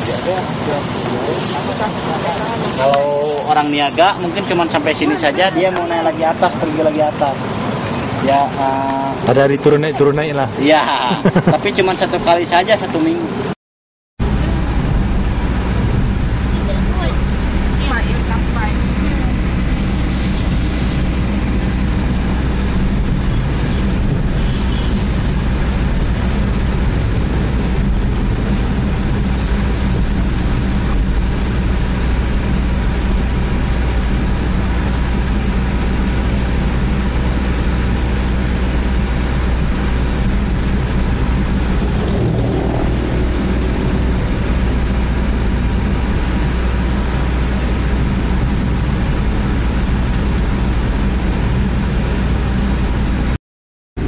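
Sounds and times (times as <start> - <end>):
car engine and road noise: 0.0 - 13.6, 14.2 - 53.4.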